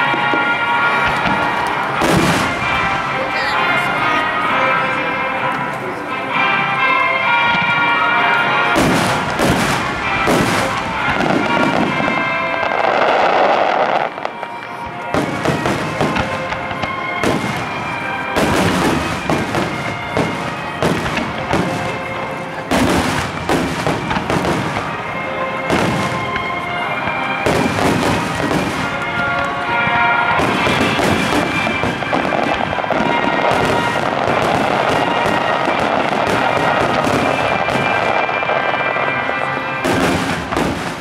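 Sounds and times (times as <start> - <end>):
fireworks bursting with crackle: 0.0 - 41.0
music playing: 0.0 - 41.0.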